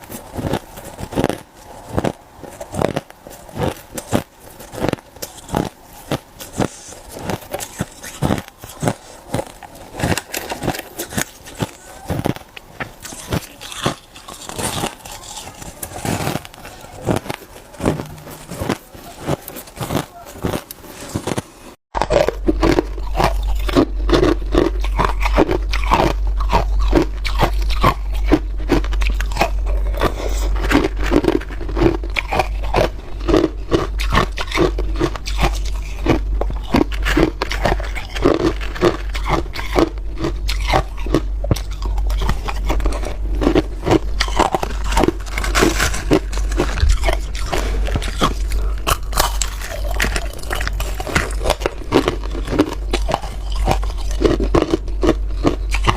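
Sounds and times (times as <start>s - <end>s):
ice crunching between teeth: 0.0s - 55.9s.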